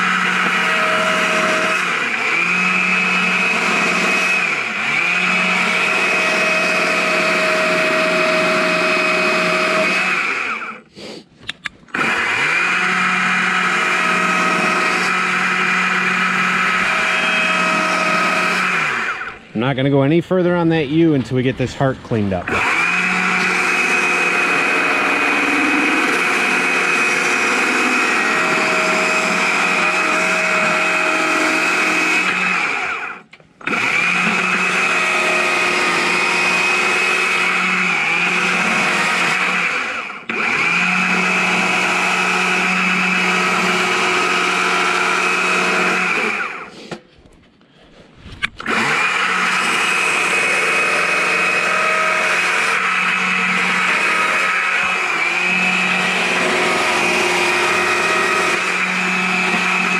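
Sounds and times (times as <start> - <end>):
chainsaw cutting log: 0.0 - 11.3, 11.9 - 19.5, 22.4 - 47.0, 48.4 - 59.9.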